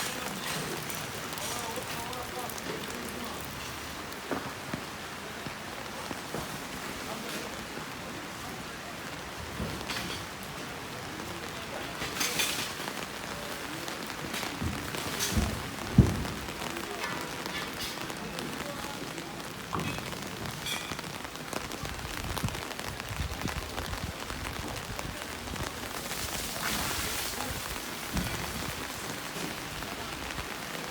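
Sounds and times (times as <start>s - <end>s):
rain pattering on hard surfaces: 0.0s - 30.9s.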